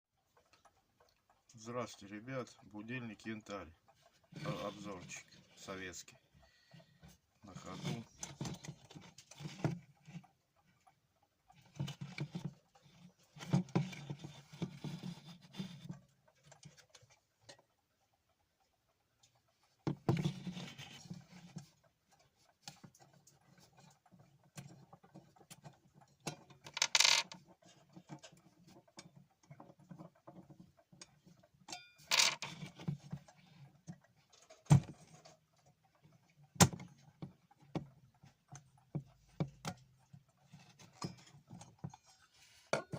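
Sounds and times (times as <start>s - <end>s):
alarm clock rattling and scraping: 0.3s - 42.7s.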